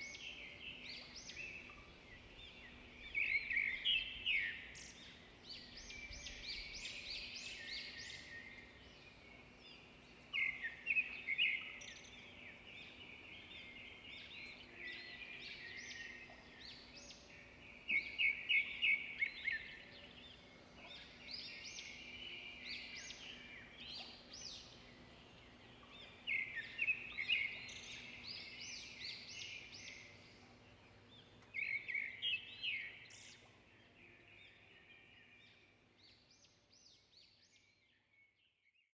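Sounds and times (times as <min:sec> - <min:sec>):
small birds chirping: 0:00.0 - 0:38.8.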